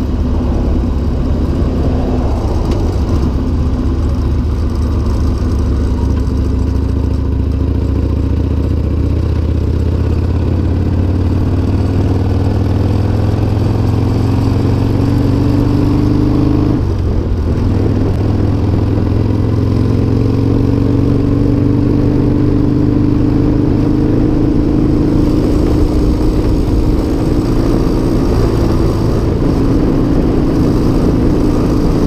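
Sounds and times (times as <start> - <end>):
motorcycle engine at road speed: 0.0 - 32.0.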